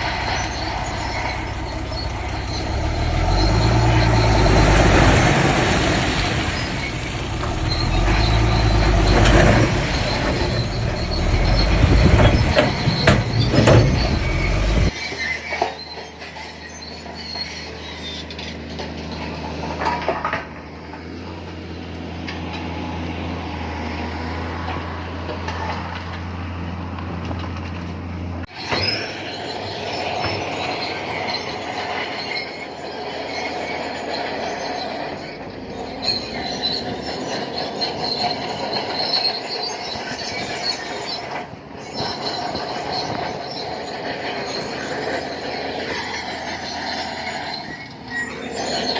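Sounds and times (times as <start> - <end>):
bulldozer diesel engine: 0.0 - 48.9
tracks clanking and squealing: 0.0 - 48.9.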